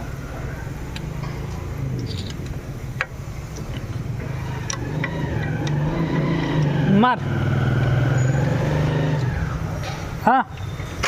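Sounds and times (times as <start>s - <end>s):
diesel engine cranking: 0.0s - 11.0s.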